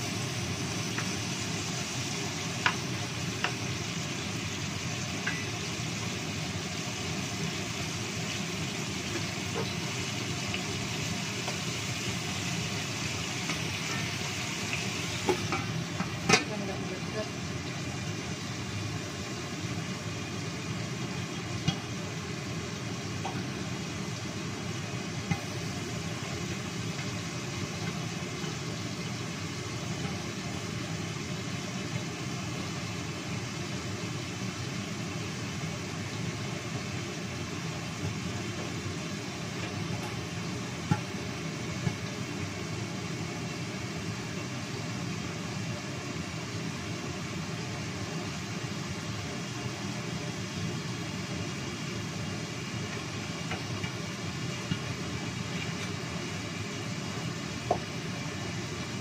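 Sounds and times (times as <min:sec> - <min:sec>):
wok hissing on gas burner: 0:00.0 - 0:59.0.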